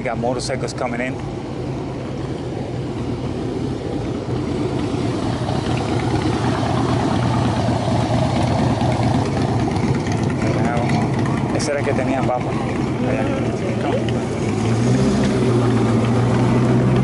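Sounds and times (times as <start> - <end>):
motorcycle engine running: 1.2 - 17.0.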